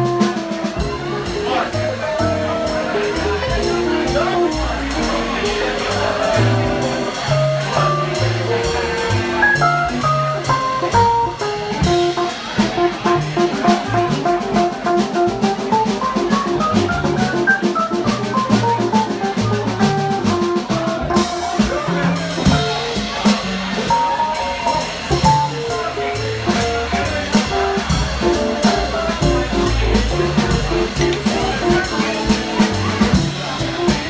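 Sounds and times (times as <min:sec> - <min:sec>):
drums keeping time: 0:00.0 - 0:34.0
upright bass walking: 0:00.0 - 0:34.0.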